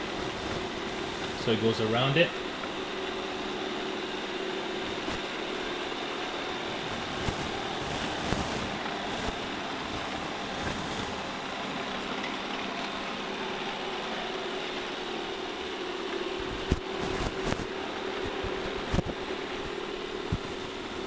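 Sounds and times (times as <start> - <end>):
robot vacuum motor hum: 0.0 - 21.0.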